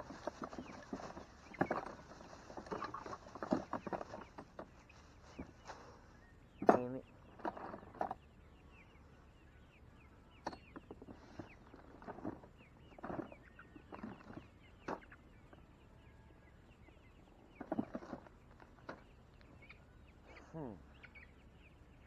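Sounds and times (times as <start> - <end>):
faint poultry calling: 0.0 - 22.0.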